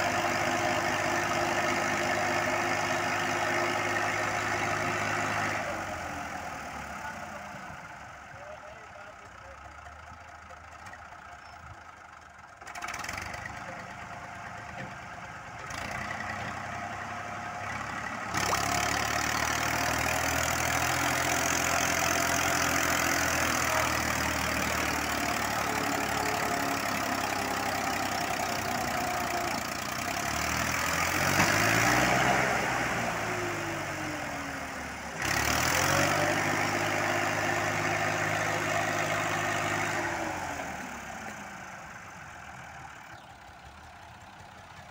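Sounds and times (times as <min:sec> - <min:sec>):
tractor engine under load: 0:00.0 - 0:44.9.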